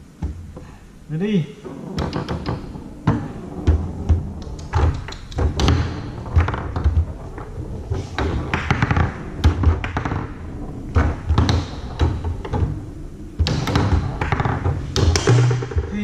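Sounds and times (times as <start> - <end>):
foosball rods slamming: 0.2 - 0.7, 1.6 - 16.0
foosball ball knocks and clacks: 1.9 - 16.0.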